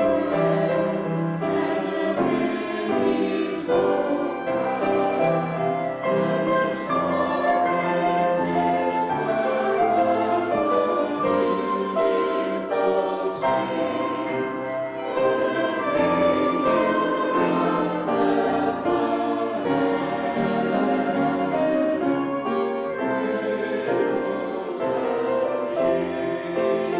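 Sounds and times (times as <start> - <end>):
church choir singing: 0.0 - 26.9.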